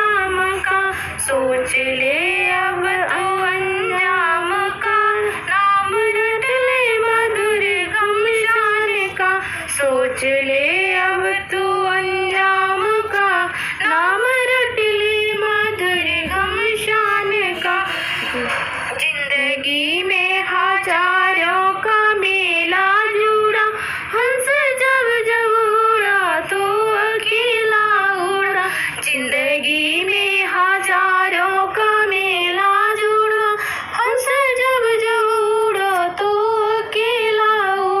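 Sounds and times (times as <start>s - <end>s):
woman singing devotional song: 0.0s - 38.0s.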